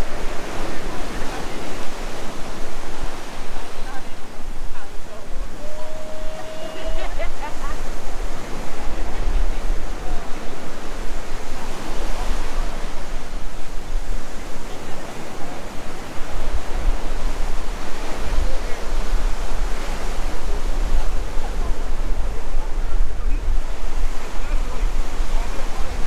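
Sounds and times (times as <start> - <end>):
ocean surf on beach: 0.0 - 26.0
wind buffeting microphone: 0.0 - 26.0.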